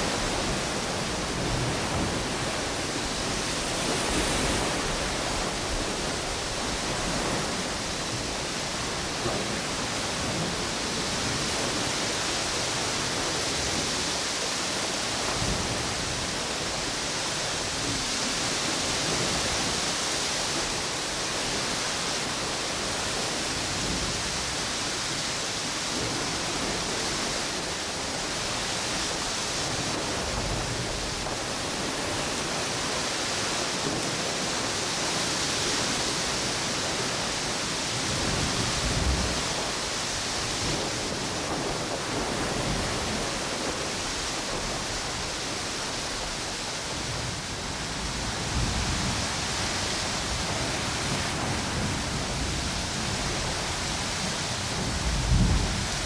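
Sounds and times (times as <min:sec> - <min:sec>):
ocean waves washing onto beach: 0:00.0 - 0:56.0
strong wind: 0:00.0 - 0:56.0.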